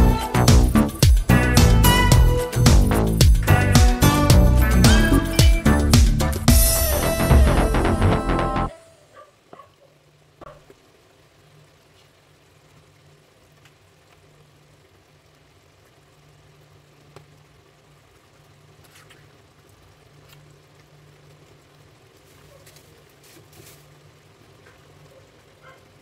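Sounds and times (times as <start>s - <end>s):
low hum from hob: 0.0s - 26.0s.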